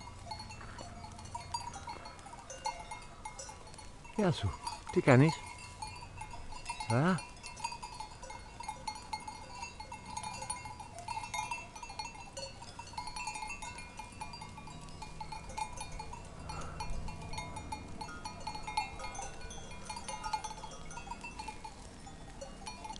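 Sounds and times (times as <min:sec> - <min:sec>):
animal bells clanking: 0:00.0 - 0:22.9.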